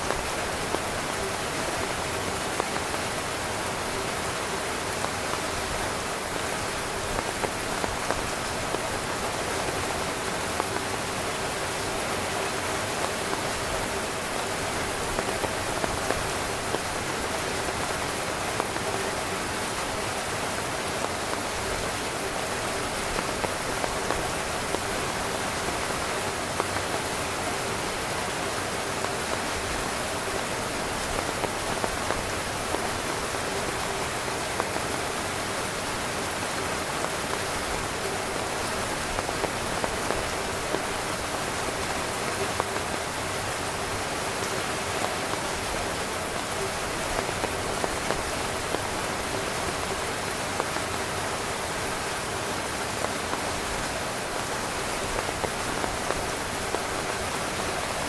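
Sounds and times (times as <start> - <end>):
louder raindrops: 0.0 - 58.0
rain on a tent: 0.0 - 58.0.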